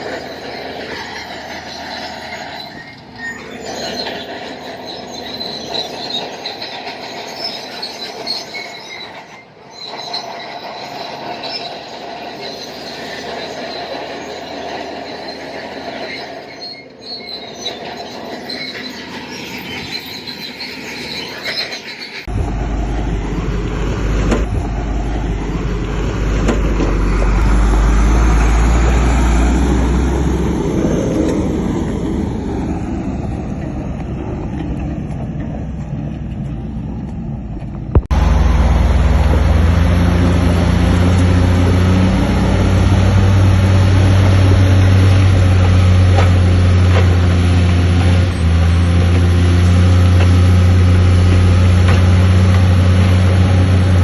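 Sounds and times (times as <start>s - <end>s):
diesel engine under load: 0.0s - 54.0s
steel tracks squealing and clanking: 0.0s - 54.0s.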